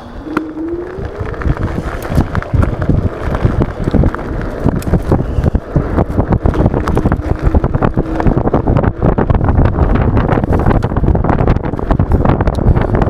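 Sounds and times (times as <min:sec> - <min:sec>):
faint electric motor whine: 0:00.0 - 0:12.9
wind buffeting microphone: 0:00.0 - 0:13.0.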